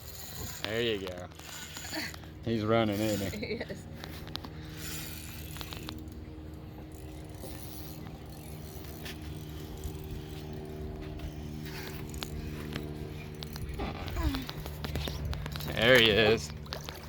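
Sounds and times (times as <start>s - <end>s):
fishing reel clicking and whirring: 0.0s - 17.0s
steady low hum: 0.0s - 17.0s.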